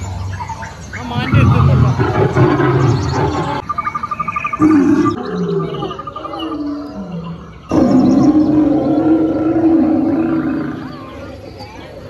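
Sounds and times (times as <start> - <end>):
animal growls and roars: 1.2 - 3.8, 4.5 - 12.0.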